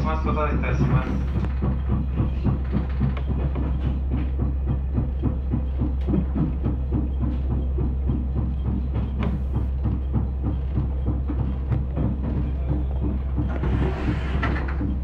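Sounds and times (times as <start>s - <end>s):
railcar engine drone: 0.0s - 15.0s
wheels and car body rattling: 0.0s - 15.0s.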